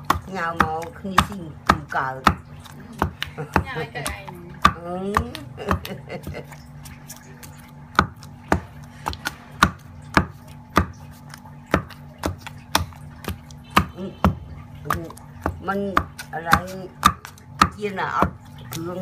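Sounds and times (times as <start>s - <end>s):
pestle pounding in stone mortar: 0.0s - 19.0s.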